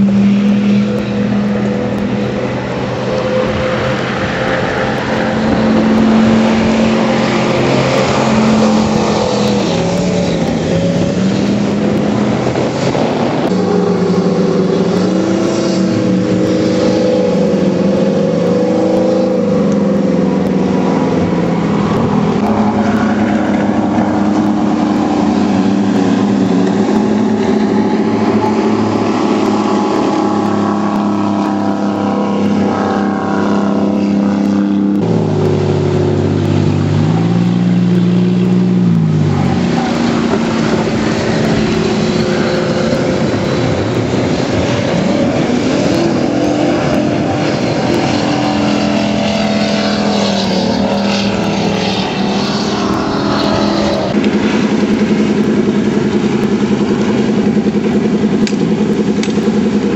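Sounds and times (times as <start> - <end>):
jet boat engines revving: 0.0 - 59.9
lower boat engine revving: 0.0 - 59.9.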